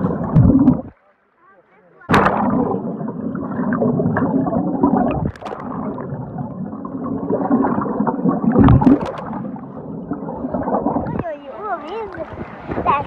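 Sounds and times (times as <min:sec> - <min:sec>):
rush of bubbles: 0:00.0 - 0:01.0, 0:02.1 - 0:13.0
underwater water sloshing: 0:00.0 - 0:13.0.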